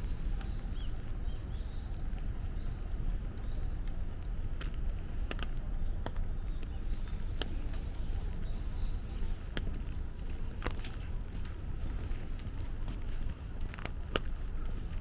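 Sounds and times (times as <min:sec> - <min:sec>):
large raindrops tapping: 0:00.3 - 0:15.0.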